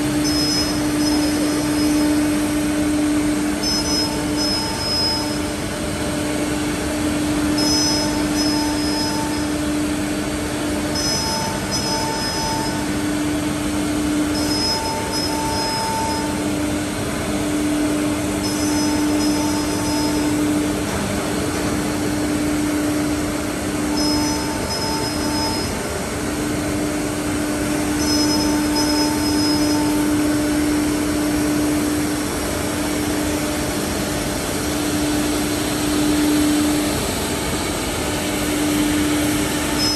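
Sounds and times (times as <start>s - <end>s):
high-pitched whine: 0.0s - 6.1s, 6.7s - 16.7s, 17.6s - 20.8s, 21.4s - 26.0s, 26.6s - 39.9s.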